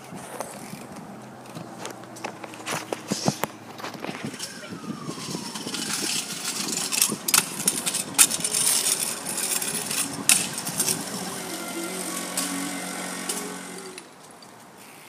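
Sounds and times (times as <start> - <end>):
kick scooter rolling on asphalt: 0.0 - 15.0
car passing: 0.5 - 14.5.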